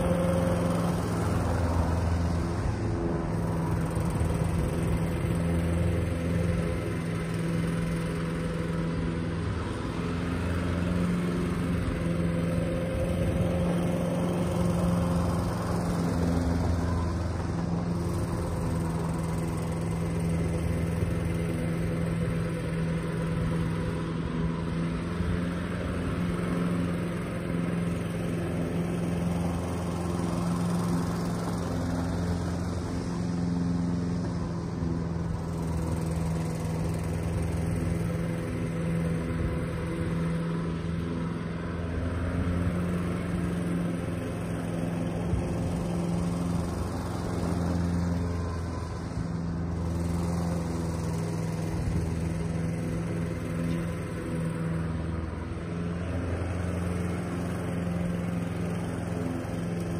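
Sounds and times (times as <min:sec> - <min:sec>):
lawn mower engine humming: 0:00.0 - 0:59.9.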